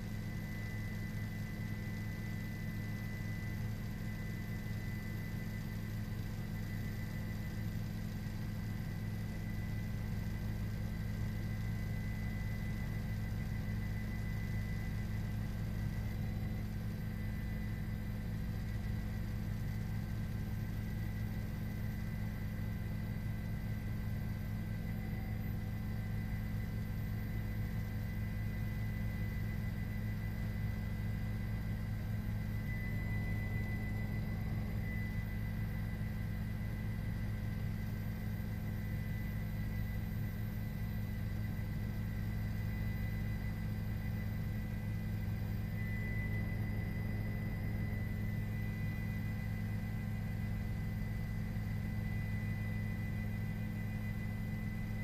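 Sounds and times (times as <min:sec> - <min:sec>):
low engine drone with whine: 0:00.0 - 0:55.0.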